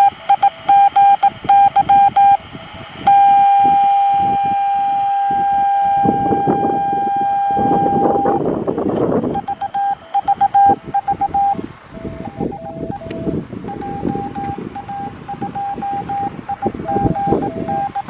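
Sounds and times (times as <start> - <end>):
radio beacon tone: 0.0 - 8.5, 9.2 - 18.0
crackly radio noise: 0.0 - 18.0.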